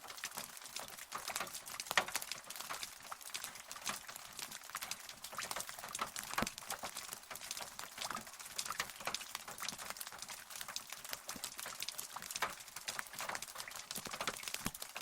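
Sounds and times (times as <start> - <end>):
rain falling: 0.0 - 15.0
raindrops ticking: 0.0 - 15.0.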